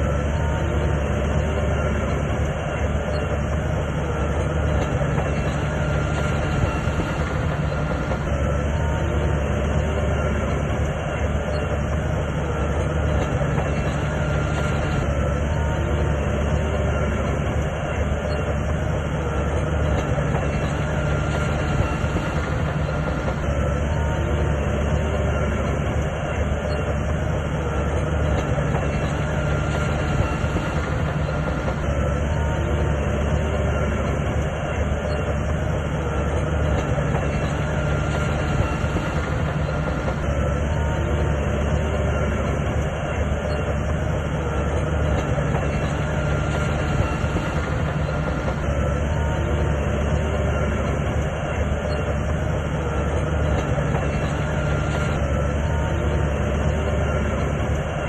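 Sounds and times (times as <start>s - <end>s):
bulldozer diesel engine running: 0.0s - 58.0s
steel tracks clattering: 0.0s - 58.0s.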